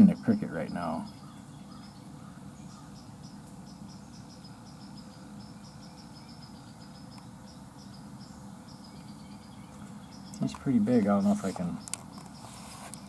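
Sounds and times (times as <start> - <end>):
crickets chirping: 0.0 - 13.0
low steady hum: 0.0 - 13.0.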